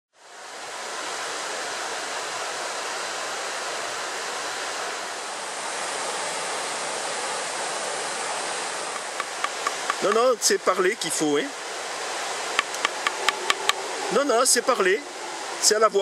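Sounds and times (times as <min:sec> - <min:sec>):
rushing torrent: 0:00.2 - 0:16.0.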